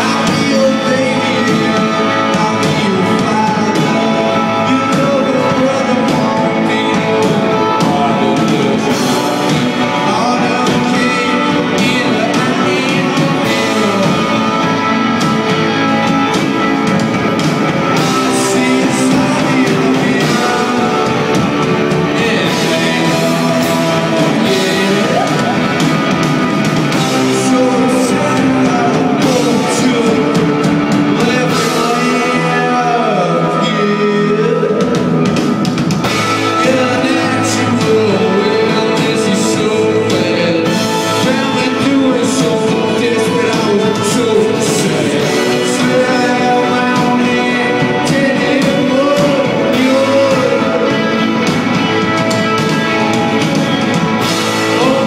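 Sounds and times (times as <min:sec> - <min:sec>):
drum kit: 0:00.0 - 0:55.0
electric guitars: 0:00.0 - 0:55.0
person singing: 0:00.0 - 0:55.0.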